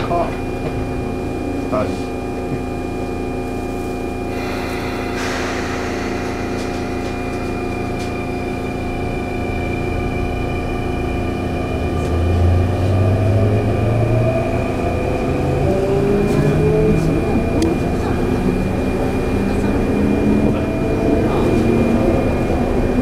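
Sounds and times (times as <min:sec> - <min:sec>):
train motor hum and whine: 0:00.0 - 0:23.0
train rolling noise: 0:00.0 - 0:23.0.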